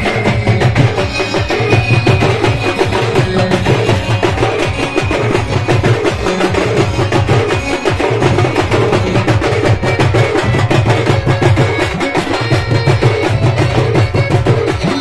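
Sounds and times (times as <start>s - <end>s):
band playing dance music: 0.0s - 15.0s
steady drumbeat: 0.0s - 15.0s.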